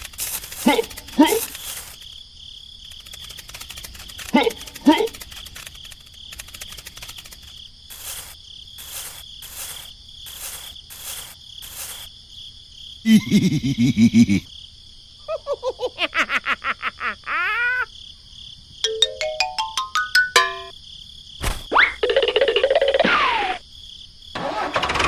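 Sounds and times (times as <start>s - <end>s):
crickets chirring: 0.0s - 24.4s.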